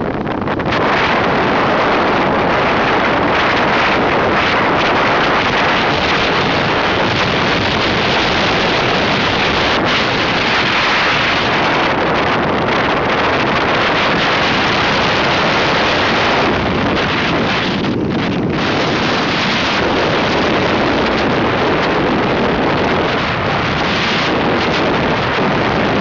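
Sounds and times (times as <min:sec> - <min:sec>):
wind rush on microphone: 0:00.0 - 0:26.0.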